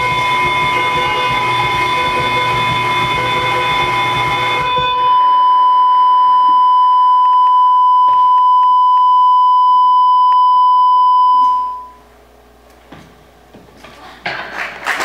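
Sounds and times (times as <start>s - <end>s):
electronic beep tone: 0.0s - 12.1s.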